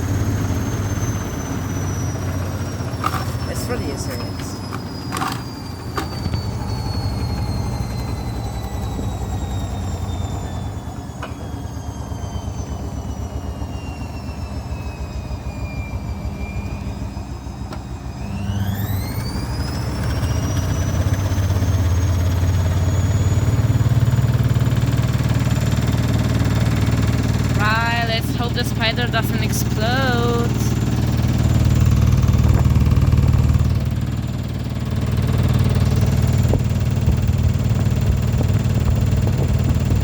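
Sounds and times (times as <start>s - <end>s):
deep rumble of spinning drum: 0.0s - 13.9s, 14.5s - 40.0s
washing machine drum motor whine: 0.0s - 40.0s.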